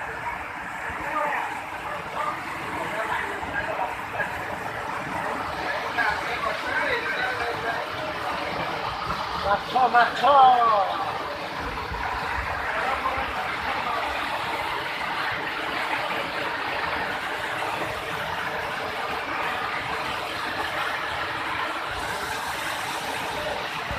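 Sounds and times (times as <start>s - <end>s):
water rushing over rocks: 0.0s - 23.9s.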